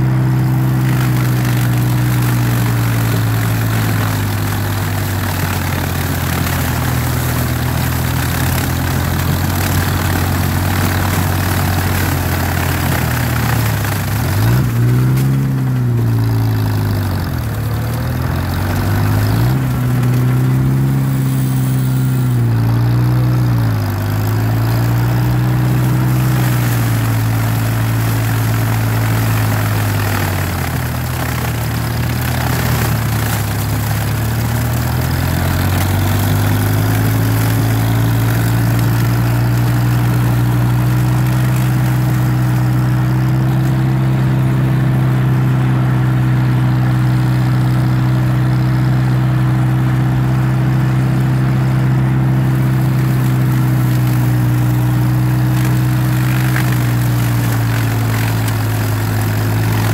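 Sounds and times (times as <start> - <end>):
dry stalks rustling: 0.0 - 49.2, 49.8 - 59.9
tractor engine running: 0.0 - 59.9.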